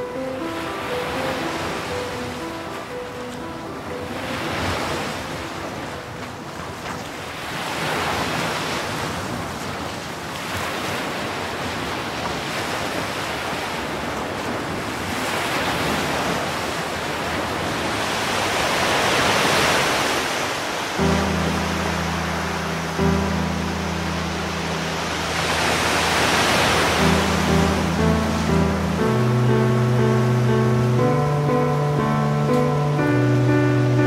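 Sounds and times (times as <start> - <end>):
sea waves washing: 0.0 - 34.0.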